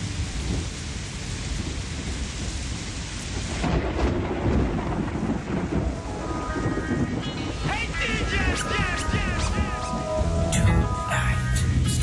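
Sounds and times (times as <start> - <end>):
steady rain hiss: 0.0 - 12.0
thunder rumbling: 0.0 - 12.0.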